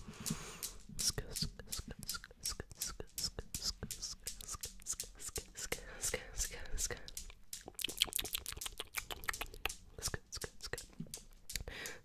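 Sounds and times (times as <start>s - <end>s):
small clicks and crackles: 0.0s - 12.0s.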